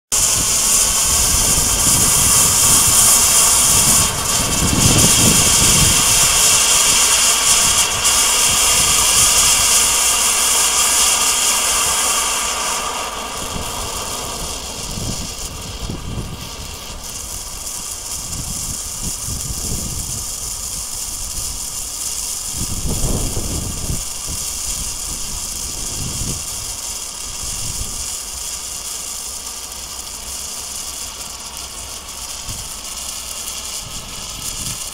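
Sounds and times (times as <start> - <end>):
pyrotechnic torch hissing: 0.0 - 34.9.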